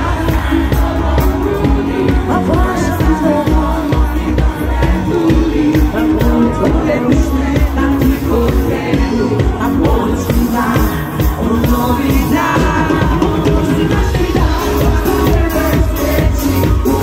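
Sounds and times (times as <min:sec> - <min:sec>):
bass beat: 0:00.0 - 0:17.0
live pop band playing: 0:00.0 - 0:17.0.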